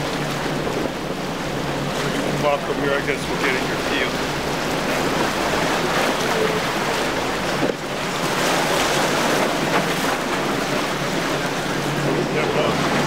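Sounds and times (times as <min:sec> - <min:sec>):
boat outboard engines at speed: 0:00.0 - 0:13.0
rush of spray and surf: 0:00.0 - 0:13.0
wind buffeting microphone: 0:00.0 - 0:13.0.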